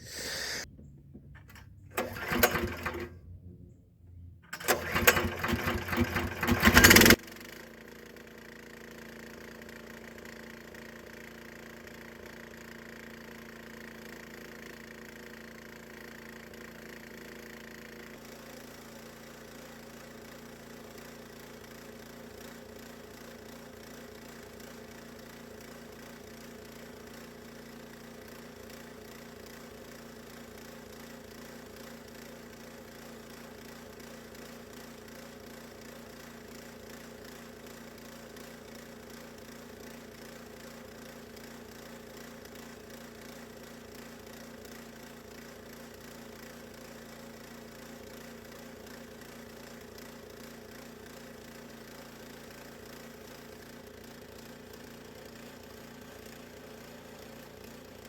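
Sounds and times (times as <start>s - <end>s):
small gas engine idling: 0.0s - 58.0s.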